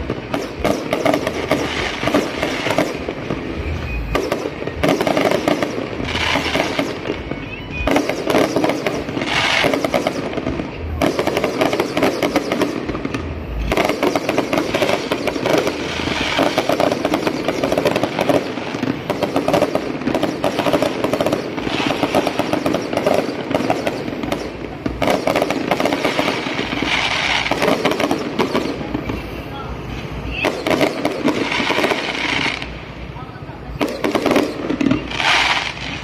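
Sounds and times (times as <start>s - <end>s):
fireworks crackling and banging: 0.0s - 36.0s.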